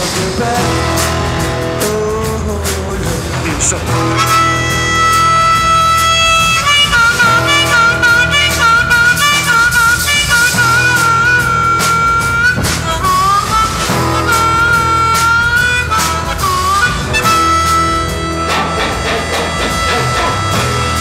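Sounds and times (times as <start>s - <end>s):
bass and guitar riff: 0.0s - 21.0s
harmonica with bending notes: 0.0s - 21.0s.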